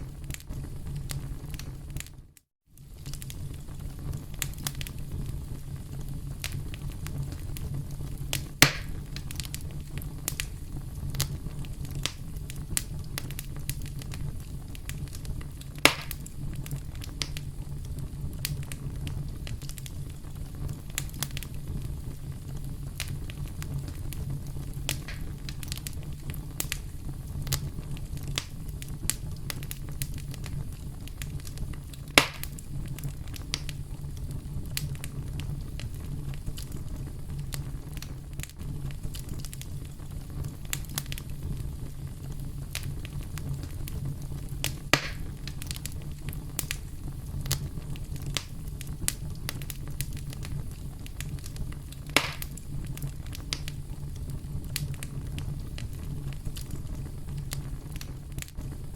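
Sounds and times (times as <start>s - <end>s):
burning wood crackling: 0.0s - 58.9s
campfire flames rumbling: 0.0s - 58.9s.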